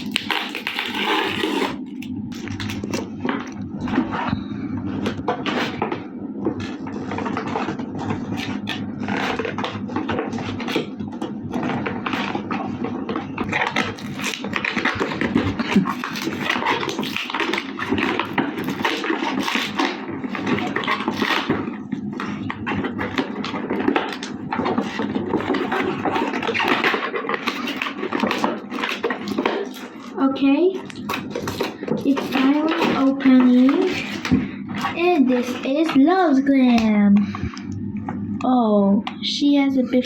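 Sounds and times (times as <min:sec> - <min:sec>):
plastic and cardboard packaging crackling: 0:00.0 - 0:37.7.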